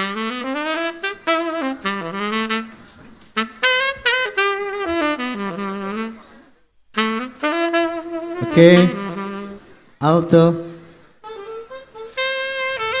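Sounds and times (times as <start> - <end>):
tenor saxophone playing: 0.0 - 13.0.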